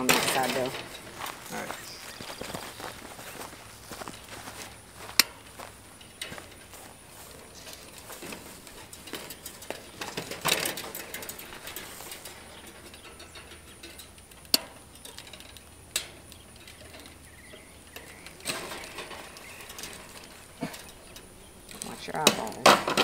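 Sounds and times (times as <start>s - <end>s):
metallic clicks and rattles: 0.0s - 1.3s, 5.2s - 23.0s.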